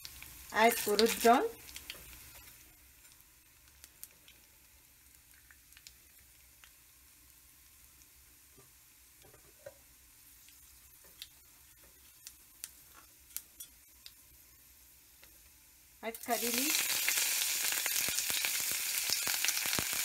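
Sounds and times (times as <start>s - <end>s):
oil sizzling in a pan: 0.0s - 20.0s.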